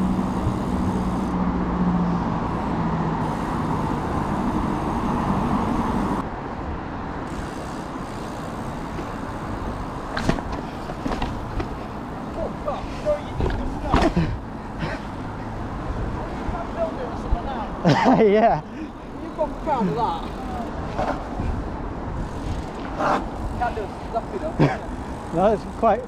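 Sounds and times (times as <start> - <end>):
traffic noise: 0.0 - 26.0
vehicle engine humming: 0.0 - 26.0.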